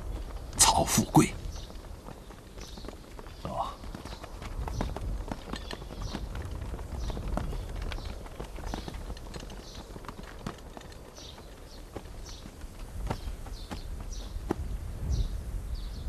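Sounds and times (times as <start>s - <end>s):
soldiers marching on dirt: 0.0s - 15.4s.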